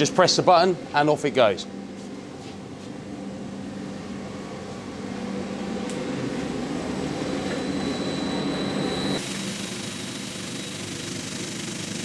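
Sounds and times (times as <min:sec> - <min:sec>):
faint high whine: 0:00.0 - 0:11.2
finishing machine humming: 0:00.0 - 0:12.0.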